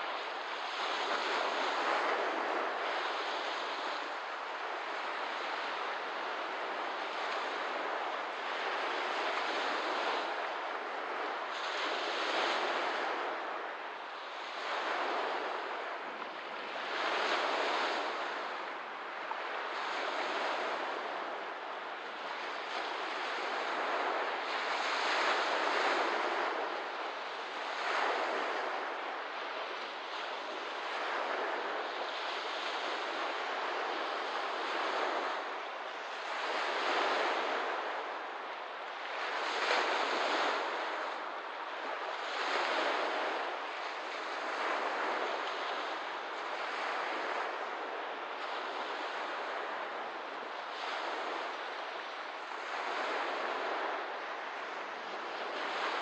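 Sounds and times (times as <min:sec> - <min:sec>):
small waves washing ashore: 0:00.0 - 0:56.0.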